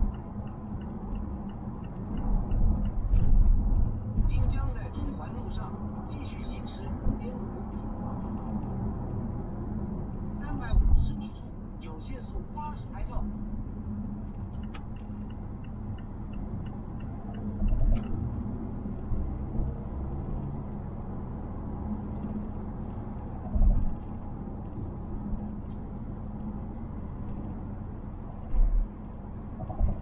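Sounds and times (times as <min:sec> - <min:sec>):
road and engine rumble in car: 0:00.0 - 0:30.0.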